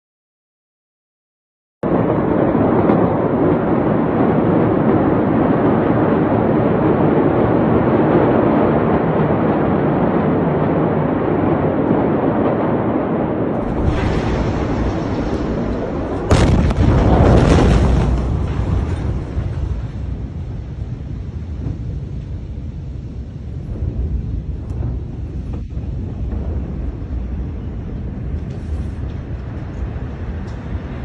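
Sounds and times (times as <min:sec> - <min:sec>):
explosion blast with low rumbling: 0:01.8 - 0:31.0
rushing rumble: 0:01.8 - 0:31.0.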